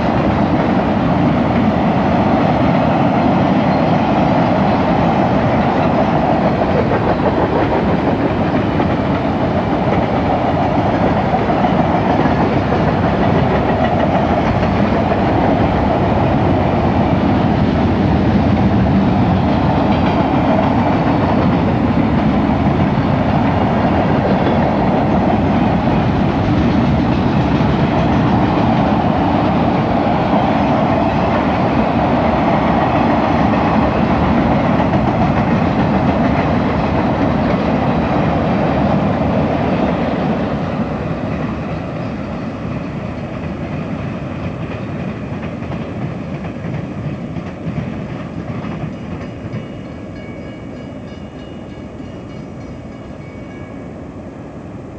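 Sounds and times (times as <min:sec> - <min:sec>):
train wheels clickety-clack: 0:00.0 - 0:52.9.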